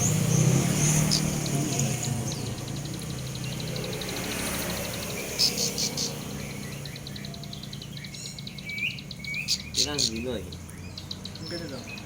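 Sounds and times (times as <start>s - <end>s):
songbird chirps: 0.0s - 12.0s.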